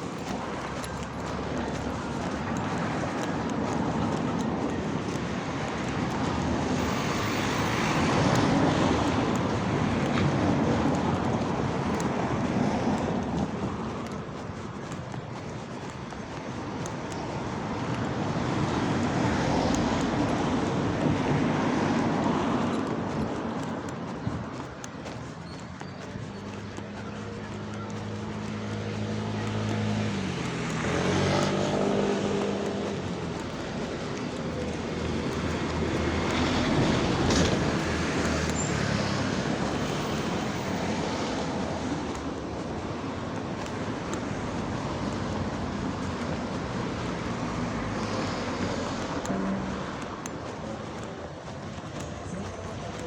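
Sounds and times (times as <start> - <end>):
road vehicle passing by: 0.0 - 53.0
traffic noise: 0.0 - 53.0.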